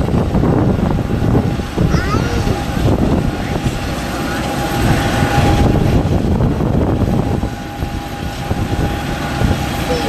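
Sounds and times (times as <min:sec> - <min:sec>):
jet airliner whine: 0:00.0 - 0:10.0
low rumble: 0:00.0 - 0:10.0.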